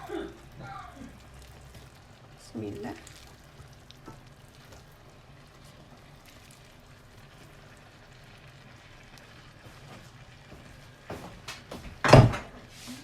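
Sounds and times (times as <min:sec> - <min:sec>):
sauce simmering with faint sizzle: 0:00.0 - 0:13.0.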